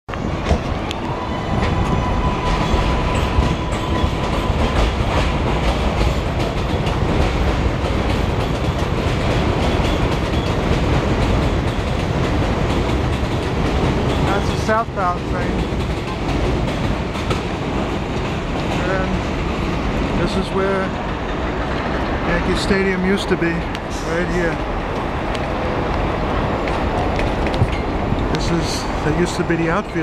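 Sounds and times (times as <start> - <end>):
train wheels rumbling on rails: 0.1 - 30.0.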